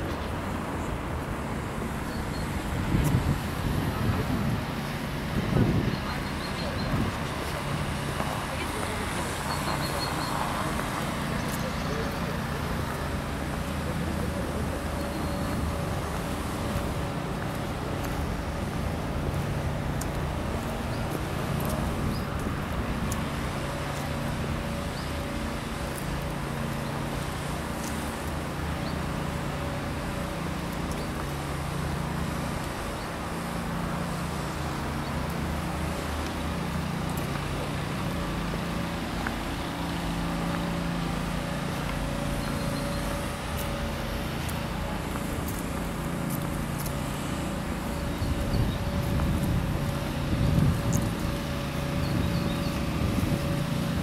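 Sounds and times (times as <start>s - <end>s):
city background hum: 0.0s - 54.0s.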